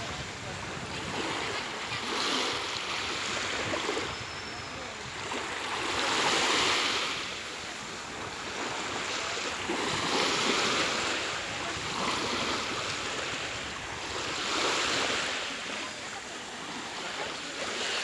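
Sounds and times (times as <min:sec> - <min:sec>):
small waves washing onto shore: 0:00.0 - 0:18.0.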